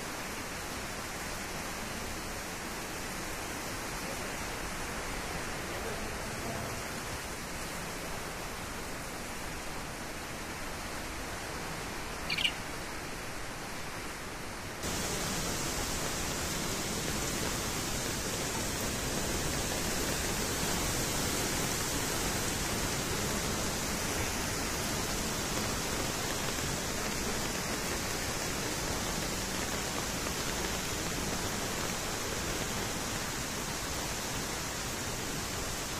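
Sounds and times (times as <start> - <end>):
floodwater torrent rushing: 0.0 - 35.9.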